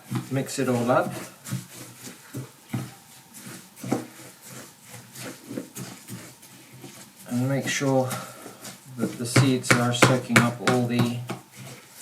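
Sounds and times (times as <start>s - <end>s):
wet mix scraping in a bowl: 0.0s - 12.0s.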